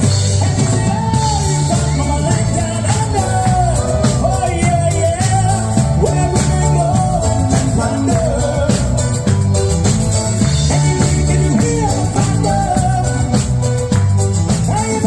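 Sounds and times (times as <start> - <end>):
person singing: 0.0 - 9.7, 10.3 - 15.0
upbeat pop rock song: 0.0 - 15.0.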